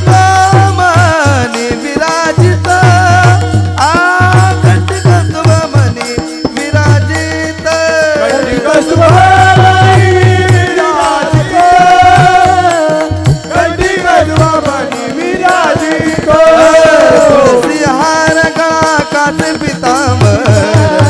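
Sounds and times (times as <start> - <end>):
hand drum: 0.0 - 21.0.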